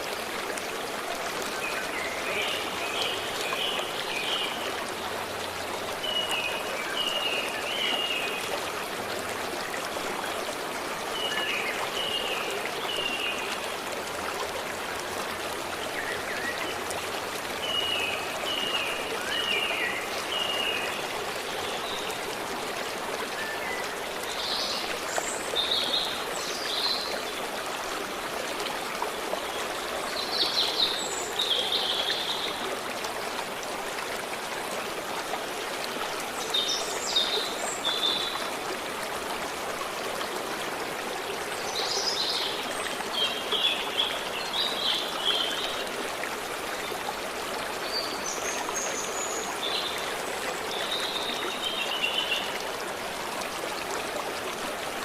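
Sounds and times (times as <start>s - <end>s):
forest stream running: 0.0s - 55.0s.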